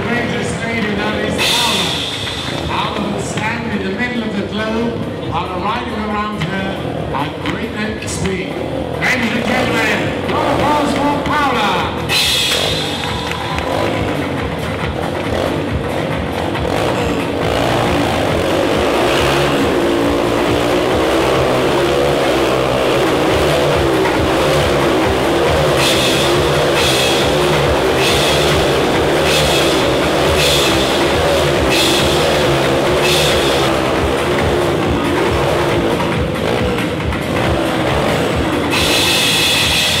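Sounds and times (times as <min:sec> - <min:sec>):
loud rock music: 0:00.0 - 0:40.0
motorcycle engines revving: 0:00.0 - 0:40.0.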